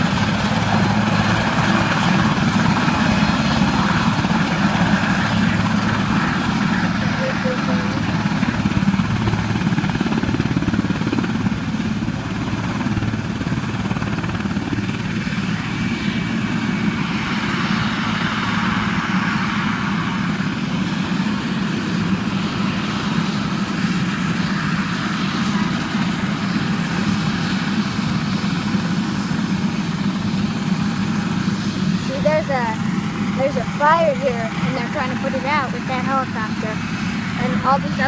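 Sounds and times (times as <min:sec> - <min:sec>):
helicopter rotor chop: 0:00.0 - 0:38.0
helicopter turbine noise: 0:00.0 - 0:38.0.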